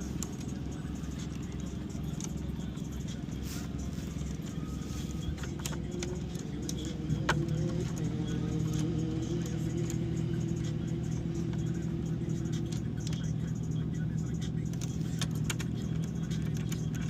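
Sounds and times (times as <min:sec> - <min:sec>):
vehicle engines droning: 0:00.0 - 0:17.0.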